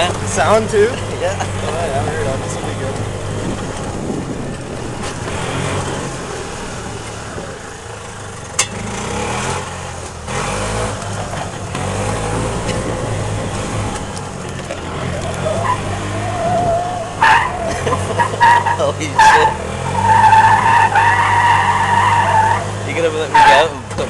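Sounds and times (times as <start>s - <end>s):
golf cart engine running: 0.0s - 24.0s.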